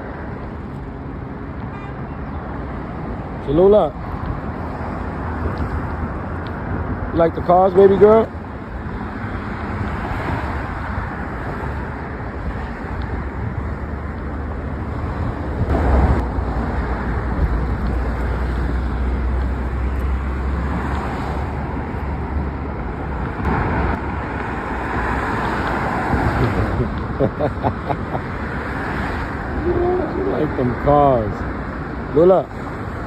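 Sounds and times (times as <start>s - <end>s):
cars driving past: 0.0s - 33.0s.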